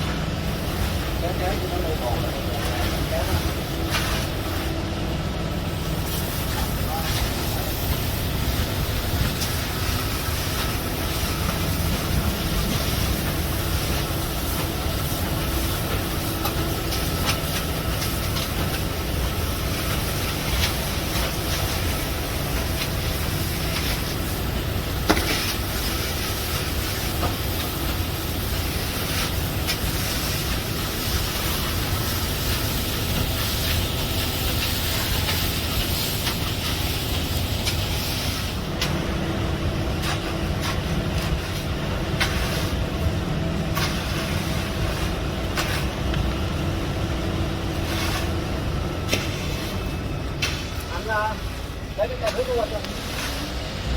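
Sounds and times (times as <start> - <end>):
machinery rumbling with hiss: 0.0 - 53.9.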